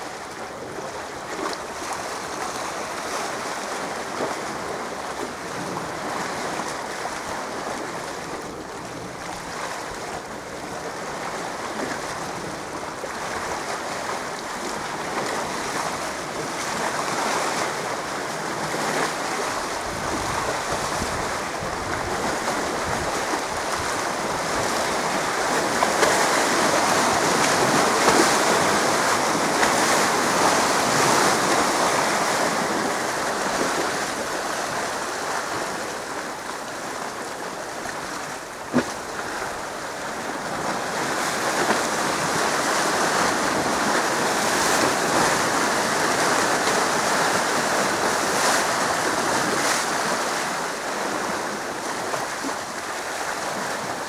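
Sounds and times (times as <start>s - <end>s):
sea waves washing: 0.0s - 54.0s
wind: 0.0s - 54.0s.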